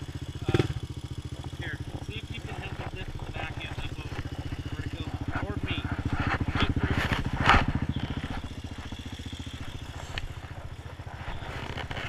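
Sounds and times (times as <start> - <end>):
quad engine idling: 0.0 - 12.0.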